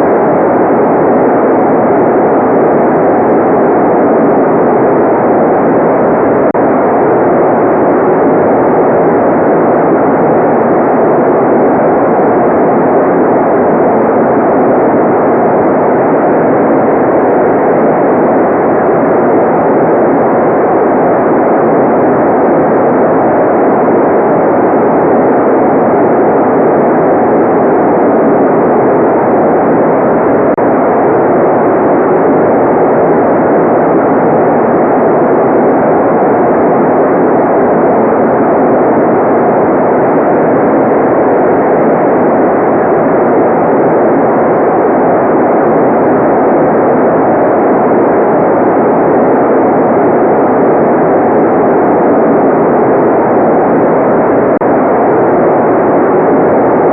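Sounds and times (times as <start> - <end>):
muffled white noise: 0.0 - 56.9.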